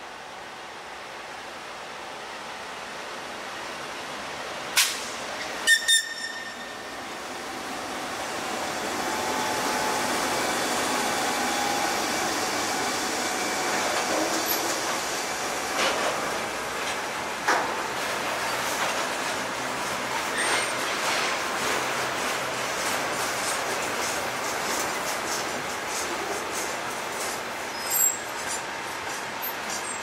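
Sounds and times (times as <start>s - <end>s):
diesel locomotives passing: 0.1s - 30.0s.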